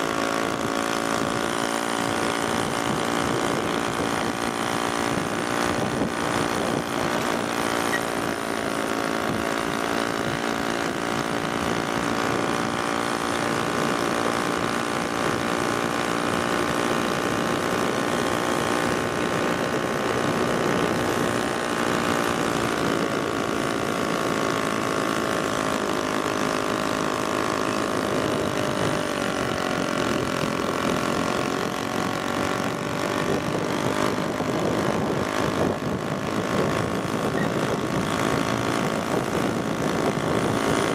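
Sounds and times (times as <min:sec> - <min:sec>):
moped engines buzzing: 0:00.0 - 0:40.9.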